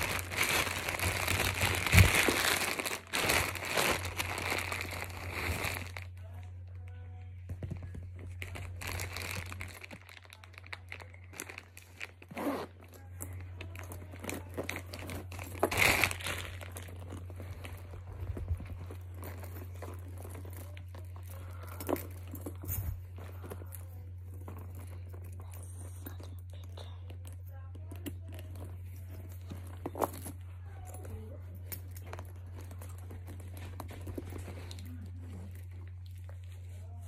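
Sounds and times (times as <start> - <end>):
packaging rustling and crinkling: 0.0 - 6.2, 7.6 - 26.9, 28.0 - 37.0
steady low hum: 0.0 - 37.0.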